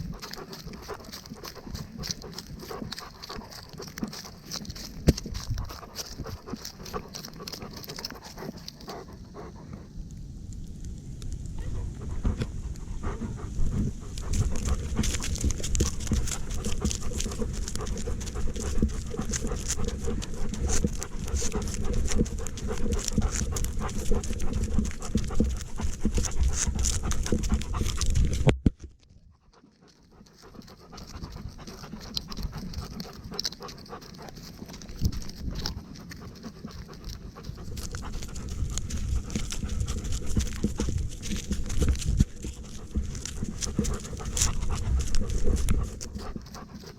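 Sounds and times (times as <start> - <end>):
rustling and scuffing: 0.0 - 9.2, 13.2 - 29.0, 29.7 - 46.9
dog panting: 0.0 - 10.0, 11.6 - 28.5, 29.3 - 46.9.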